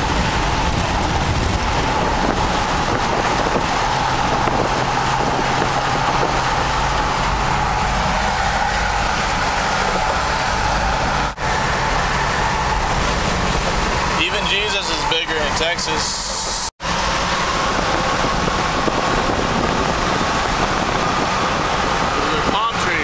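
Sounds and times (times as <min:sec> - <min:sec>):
wind noise: 0:00.0 - 0:15.1, 0:16.0 - 0:23.0
engine drone: 0:00.0 - 0:23.0.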